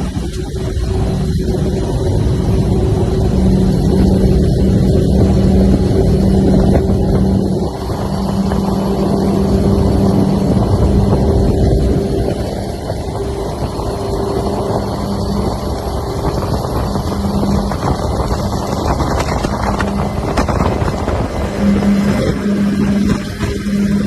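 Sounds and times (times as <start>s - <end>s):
motorboat engine drone: 0.0s - 24.0s
rushing wind: 0.0s - 24.0s
water noise: 0.0s - 24.0s.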